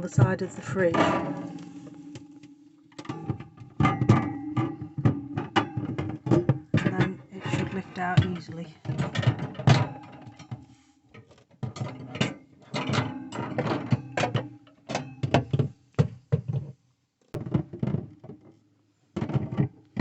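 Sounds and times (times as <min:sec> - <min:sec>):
fridge shelf knocking and rattling: 0:00.0 - 0:01.9, 0:03.0 - 0:10.6, 0:11.6 - 0:16.7, 0:17.4 - 0:18.5, 0:19.2 - 0:20.0.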